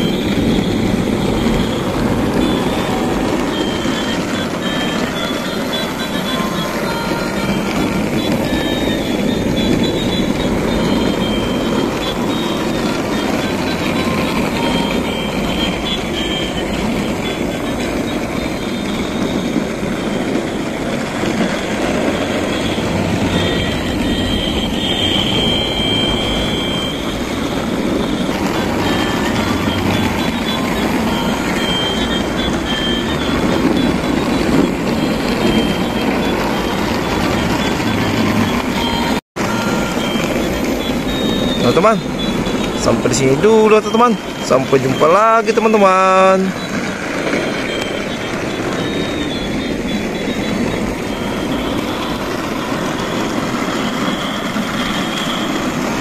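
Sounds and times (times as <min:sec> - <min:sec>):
high electronic beeps: 0:00.0 - 0:56.0
toy trains whirring and rattling: 0:00.0 - 0:56.0.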